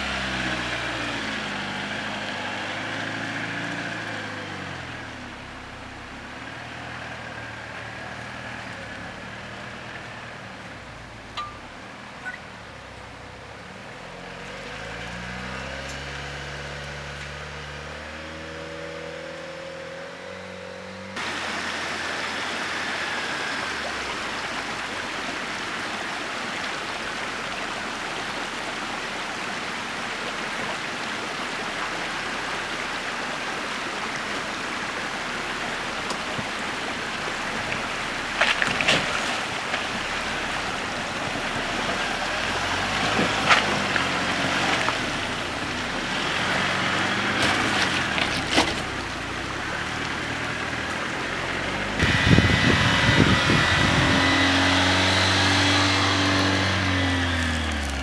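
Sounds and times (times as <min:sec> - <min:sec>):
stream running over rocks: 0:00.0 - 0:58.0
vehicle engine hum: 0:00.0 - 0:58.0.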